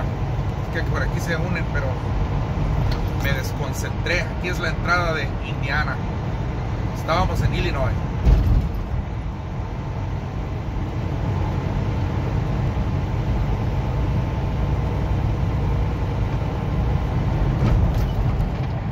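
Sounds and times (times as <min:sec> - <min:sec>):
truck engine and tyre rumble: 0:00.0 - 0:18.9.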